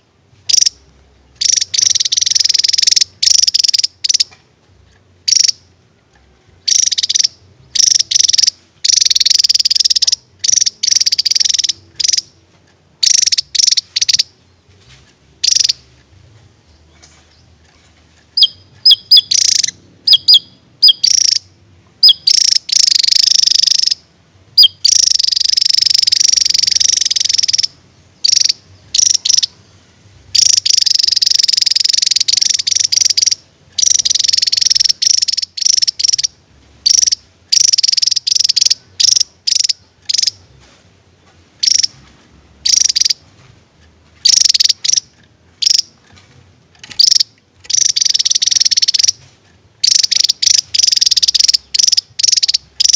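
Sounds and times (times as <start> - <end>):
bird singing high rapid bursts: 0.0 - 4.4, 5.2 - 6.0, 6.6 - 16.0, 16.6 - 43.4, 44.2 - 46.0, 46.8 - 52.9.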